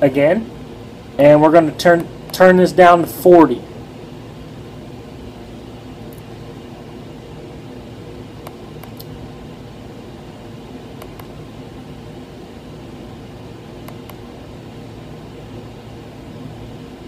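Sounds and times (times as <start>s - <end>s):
room hum and hiss: 0.0s - 17.0s.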